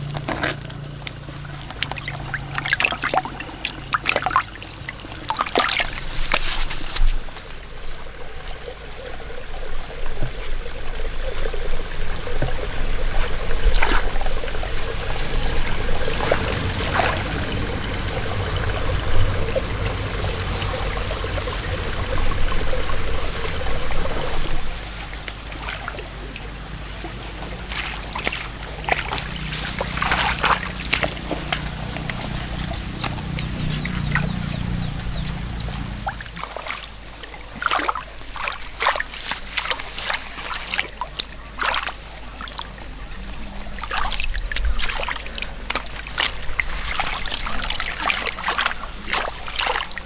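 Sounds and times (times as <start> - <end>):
water trickling and splashing: 0.0 - 50.0.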